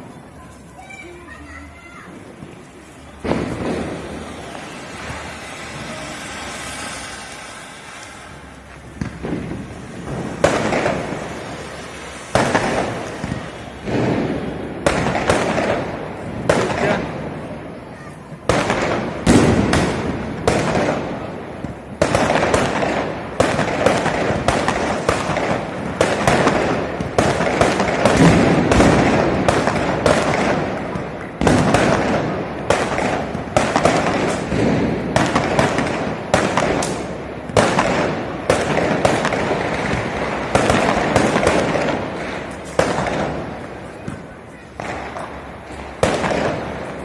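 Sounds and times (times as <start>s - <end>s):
firecrackers cracking: 0.0s - 47.0s.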